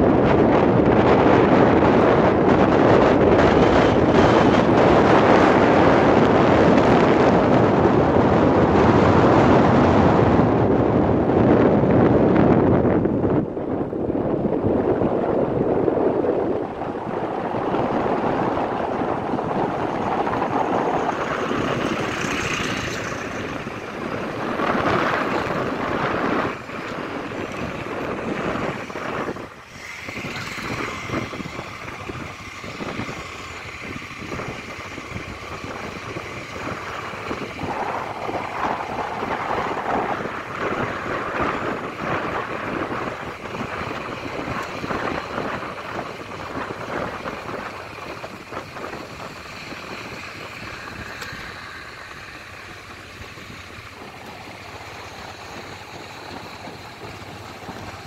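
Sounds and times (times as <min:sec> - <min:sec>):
road traffic passing: 0:00.0 - 0:58.0
wind on microphone: 0:00.0 - 0:58.0.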